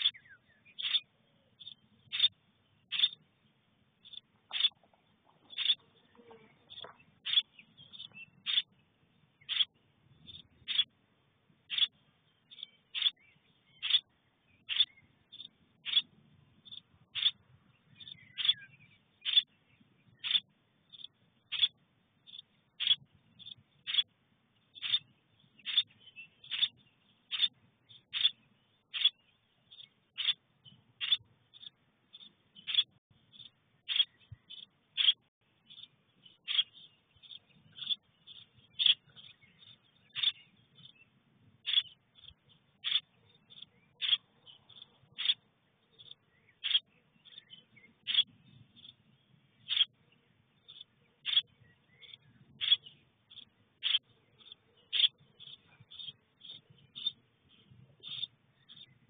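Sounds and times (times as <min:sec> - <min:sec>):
nestling begging calls: 0:00.0 - 0:03.3, 0:04.0 - 0:08.8, 0:09.4 - 0:11.0, 0:11.6 - 0:19.5, 0:20.1 - 0:24.1, 0:24.7 - 0:41.0, 0:41.6 - 0:49.0, 0:49.6 - 0:50.0, 0:50.6 - 0:57.2, 0:58.0 - 0:59.0
soft chirps: 0:00.0 - 0:11.0, 0:11.6 - 0:59.0.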